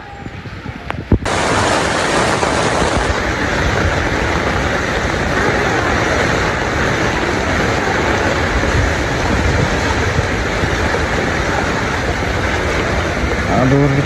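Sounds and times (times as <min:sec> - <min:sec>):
floodwater rushing: 0:00.0 - 0:14.0
low rumble: 0:00.0 - 0:14.0.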